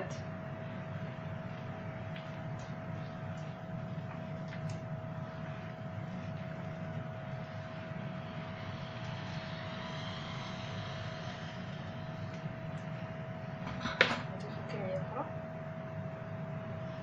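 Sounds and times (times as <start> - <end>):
machine hum with whining tone: 0.0 - 17.0.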